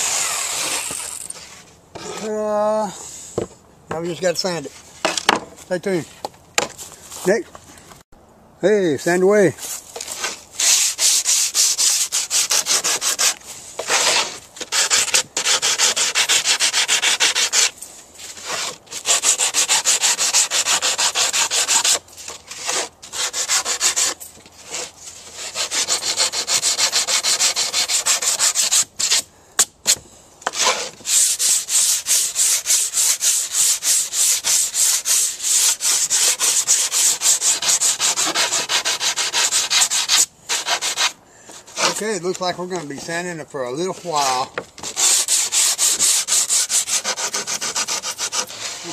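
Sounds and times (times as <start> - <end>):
sandpaper rubbing on wood: 0.0 - 2.4, 9.6 - 29.2, 30.5 - 42.8, 43.9 - 48.9.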